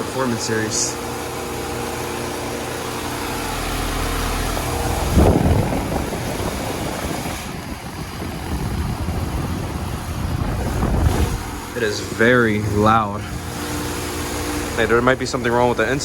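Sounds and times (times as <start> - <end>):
air conditioner unit humming: 0.0 - 16.0
loud rumble: 1.1 - 16.0.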